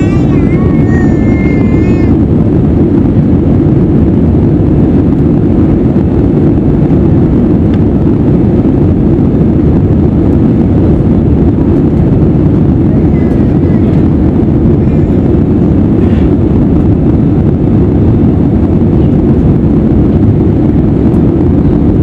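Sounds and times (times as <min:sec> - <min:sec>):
airplane engines rumbling: 0:00.0 - 0:22.0.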